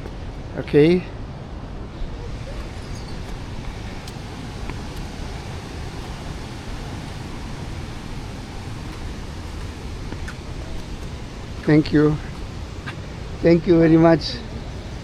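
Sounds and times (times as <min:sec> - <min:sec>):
waterfall rushing: 0:01.9 - 0:15.0.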